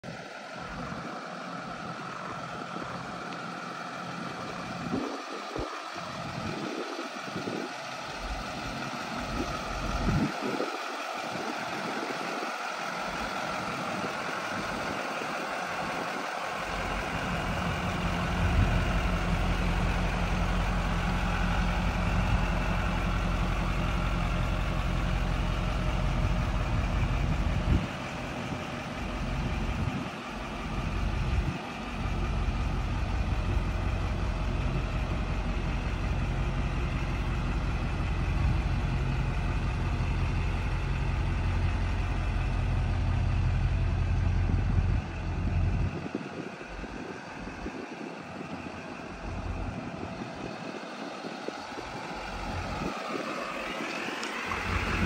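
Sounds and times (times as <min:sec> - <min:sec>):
truck engine idling: 0:00.0 - 0:55.0
steady outdoor hiss: 0:00.1 - 0:55.0.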